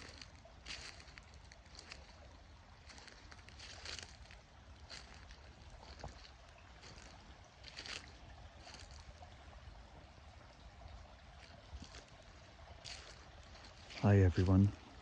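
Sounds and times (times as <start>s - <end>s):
stream trickling: 0.0s - 15.0s.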